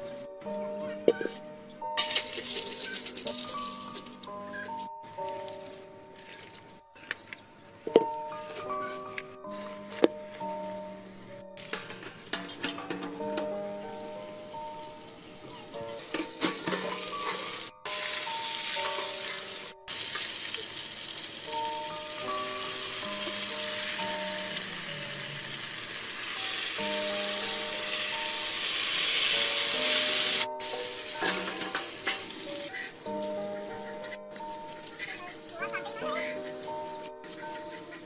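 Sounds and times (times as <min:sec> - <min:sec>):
background music melody: 0:00.0 - 0:38.0
frying hiss: 0:02.0 - 0:06.6, 0:11.6 - 0:38.0.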